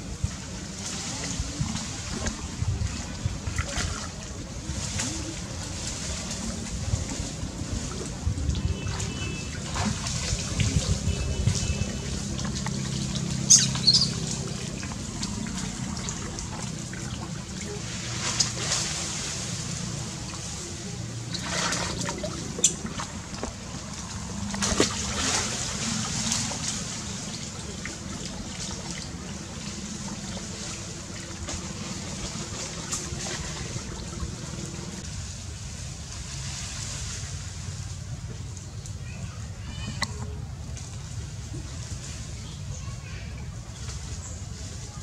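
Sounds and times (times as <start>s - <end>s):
water splashing and sloshing: 0.0s - 45.0s.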